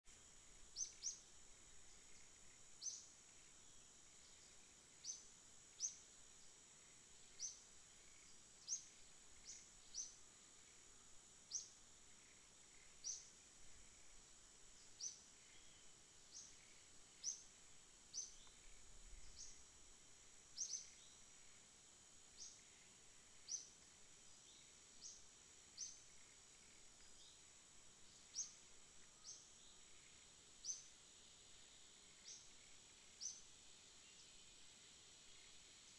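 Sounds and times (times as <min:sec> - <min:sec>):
high-pitched insect drone: 0:00.2 - 0:35.9.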